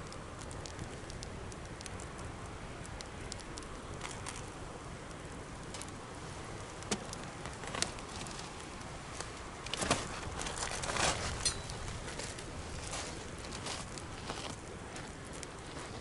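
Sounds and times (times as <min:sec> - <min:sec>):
campfire hissing: 0:00.0 - 0:16.0
campfire pops and snaps: 0:00.0 - 0:16.0.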